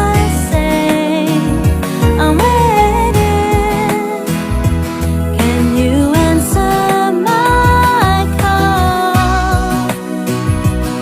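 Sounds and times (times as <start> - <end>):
ringtone melody over repeating bass: 1.5 - 11.0.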